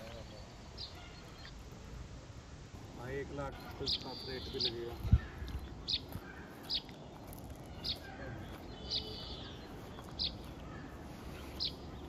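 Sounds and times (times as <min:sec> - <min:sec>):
bird chirping: 0:00.0 - 0:01.9, 0:03.0 - 0:12.0
faint outdoor background: 0:00.0 - 0:12.0.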